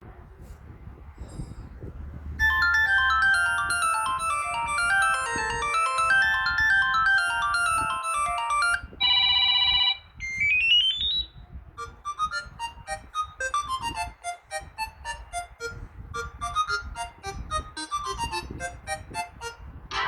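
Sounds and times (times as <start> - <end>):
electronic ringtone melodies: 2.4 - 20.0.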